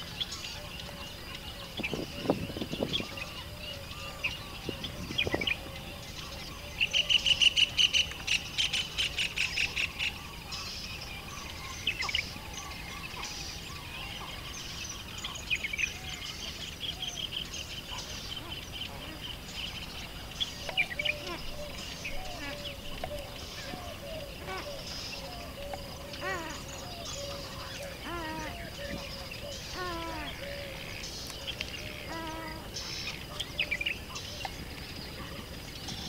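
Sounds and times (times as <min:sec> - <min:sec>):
birds chirping and calling: 0:00.0 - 0:36.0.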